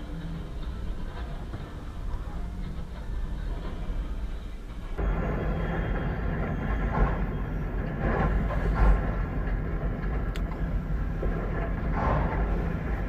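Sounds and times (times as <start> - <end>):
derailing train rumble and crunching: 0.0 - 13.0.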